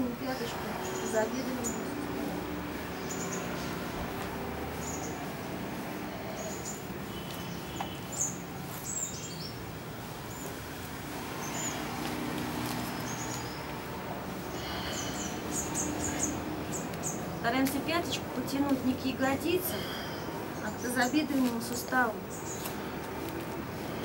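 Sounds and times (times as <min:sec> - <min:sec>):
low background noise: 0:00.0 - 0:24.0
small birds chirping: 0:00.0 - 0:24.0.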